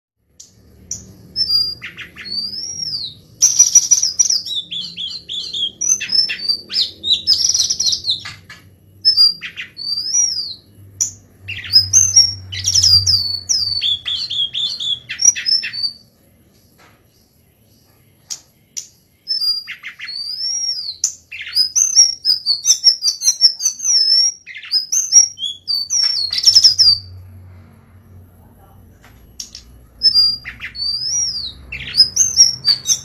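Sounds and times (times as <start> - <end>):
songbird singing: 0.3 - 33.0.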